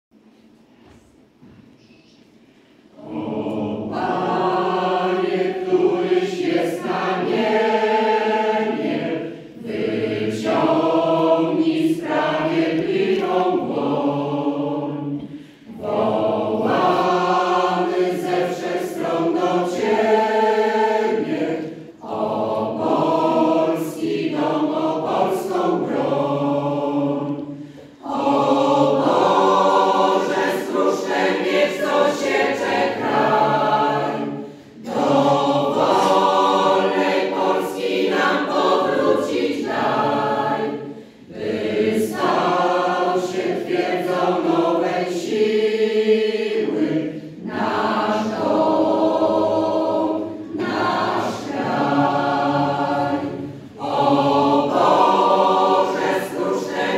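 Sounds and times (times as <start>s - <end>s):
mixed choir singing: 2.4s - 56.9s.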